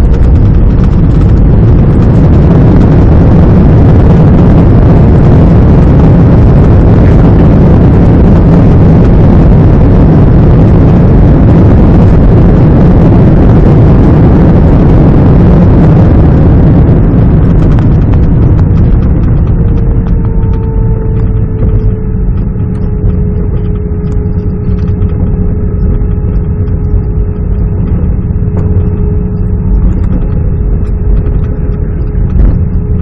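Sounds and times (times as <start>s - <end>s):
airplane landing roar: 0.0s - 33.0s.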